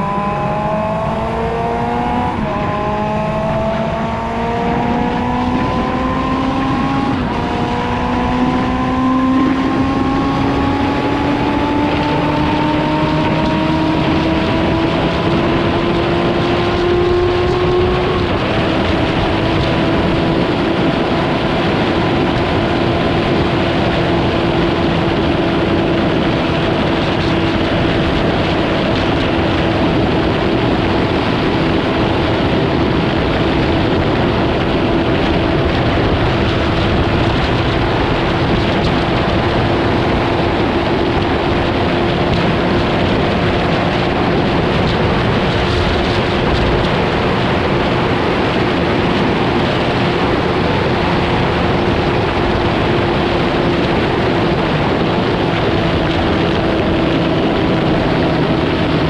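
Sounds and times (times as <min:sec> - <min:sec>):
engine drone: 0:00.0 - 0:59.0
road and wind noise: 0:00.0 - 0:59.0.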